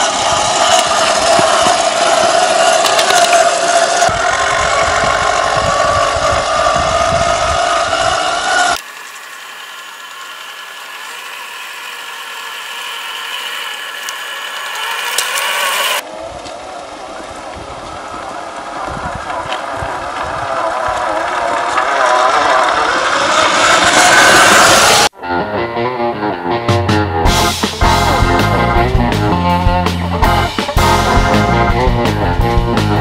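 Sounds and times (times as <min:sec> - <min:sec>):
electric motor and gearbox whining: 0:00.0 - 0:25.1, 0:27.3 - 0:33.0.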